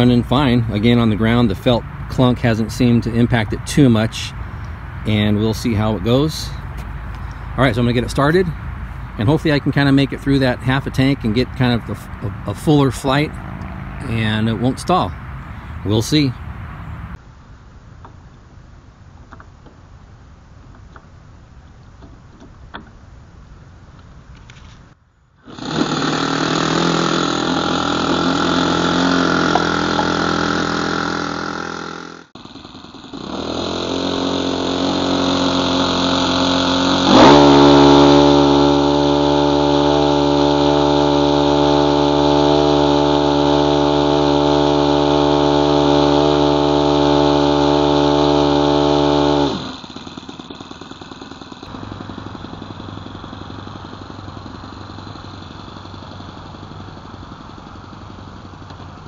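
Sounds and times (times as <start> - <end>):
model plane engine running: 0.0 - 17.1, 25.4 - 59.0.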